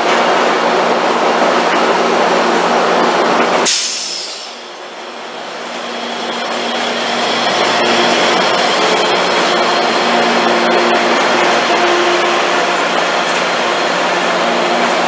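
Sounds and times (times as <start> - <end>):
diesel locomotive passing: 0.0 - 15.0.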